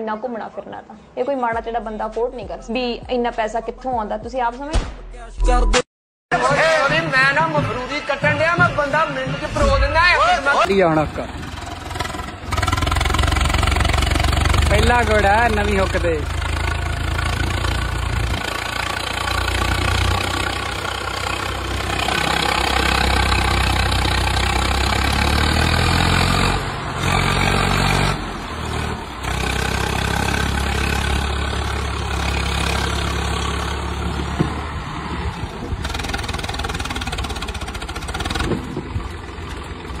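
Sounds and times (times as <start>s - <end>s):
tractor diesel engine under load: 6.4s - 40.0s.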